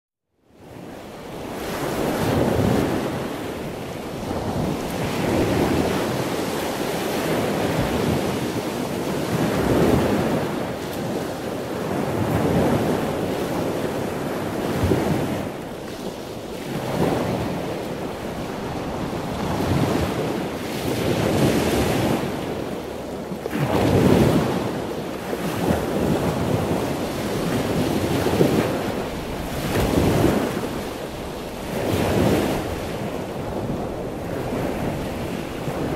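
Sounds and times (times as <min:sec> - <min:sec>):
sea waves surging: 0:00.6 - 0:35.9.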